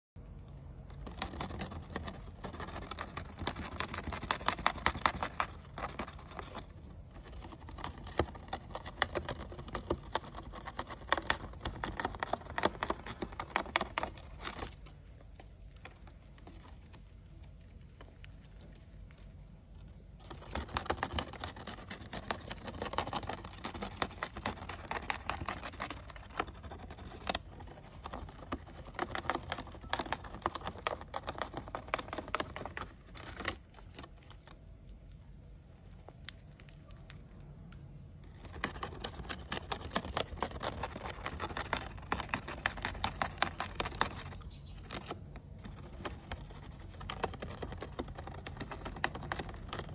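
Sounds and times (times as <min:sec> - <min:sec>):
rapid clicking and tapping: 0:01.0 - 0:17.0, 0:20.2 - 0:34.6, 0:38.3 - 0:49.9.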